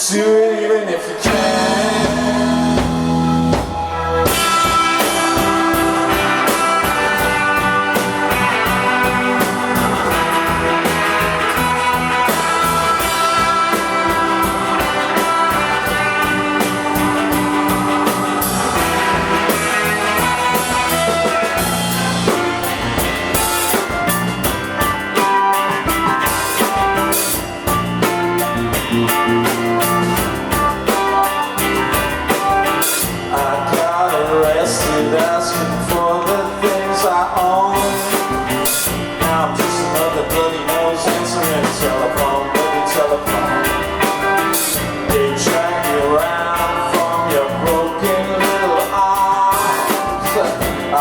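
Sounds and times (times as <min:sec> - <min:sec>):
rock band playing instrumental: 0:01.0 - 0:51.0.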